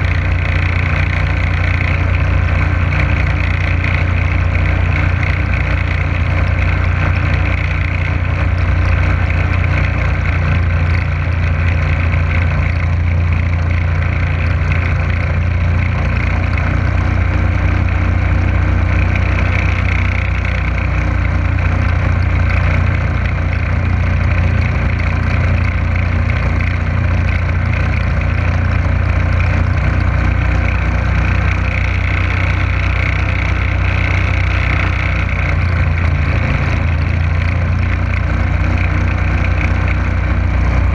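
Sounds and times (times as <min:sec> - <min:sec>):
motorboat engine droning: 0:00.0 - 0:40.9.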